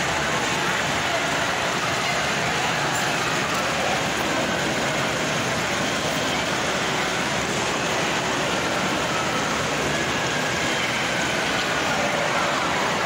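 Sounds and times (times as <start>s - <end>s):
shopping mall din: 0.0s - 13.0s.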